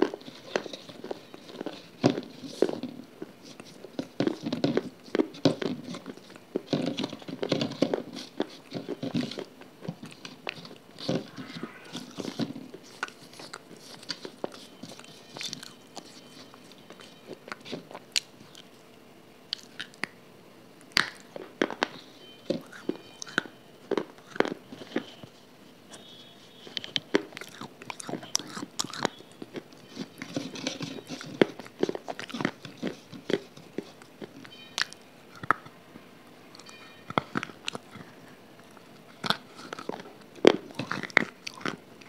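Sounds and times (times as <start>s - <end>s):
chewing with sticky clicks: 0.0s - 10.9s, 12.2s - 20.2s, 20.8s - 35.8s, 36.5s - 42.0s.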